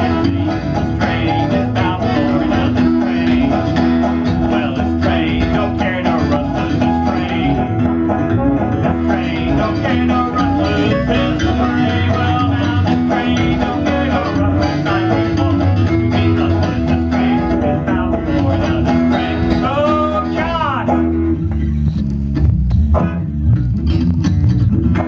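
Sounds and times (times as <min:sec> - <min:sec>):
bass line: 0:00.0 - 0:25.0
strummed banjo: 0:00.0 - 0:25.0
strummed guitar: 0:00.0 - 0:25.0.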